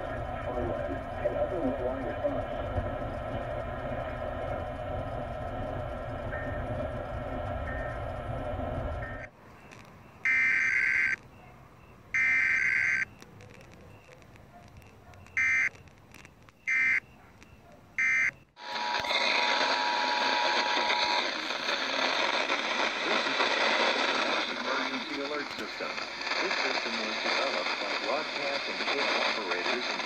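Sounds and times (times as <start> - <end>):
buzzy data bursts over radio: 0.0 - 6.6, 7.6 - 11.3, 12.0 - 17.4, 18.0 - 30.0
radio hiss: 0.0 - 11.3, 12.2 - 30.0.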